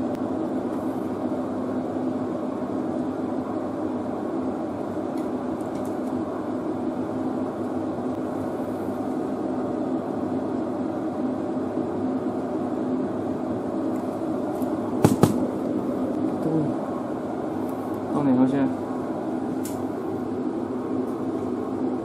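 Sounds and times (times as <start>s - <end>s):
machine hum with low drone: 0.0s - 22.0s.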